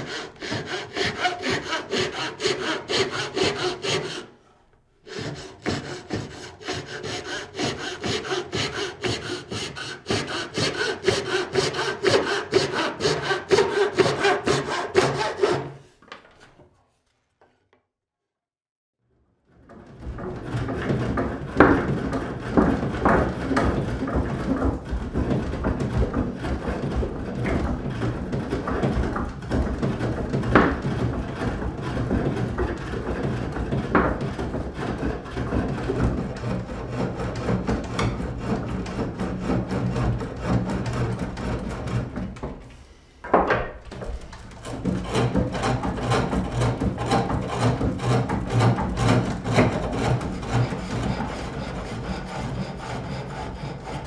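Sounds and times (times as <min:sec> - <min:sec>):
gouge cutting wood on lathe: 0:00.0 - 0:04.3, 0:05.0 - 0:15.8, 0:20.3 - 0:42.6, 0:44.0 - 0:54.0
sharp wooden knocks: 0:05.1 - 0:15.6, 0:20.0 - 0:42.6, 0:43.2 - 0:54.0.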